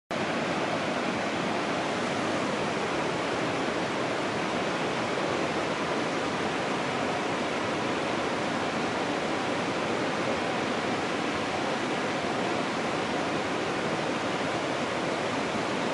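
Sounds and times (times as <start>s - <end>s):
flowing water rushing: 0.1s - 15.9s.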